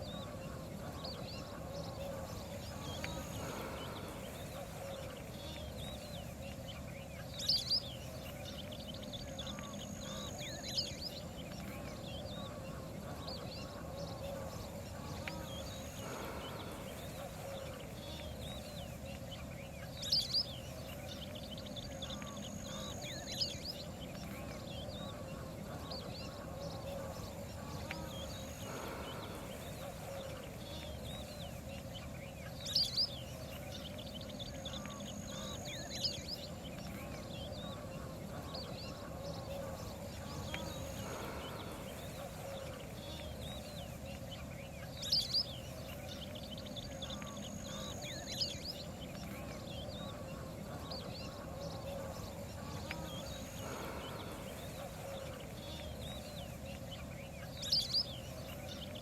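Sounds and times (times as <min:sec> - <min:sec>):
background hum: 0:00.0 - 0:59.0.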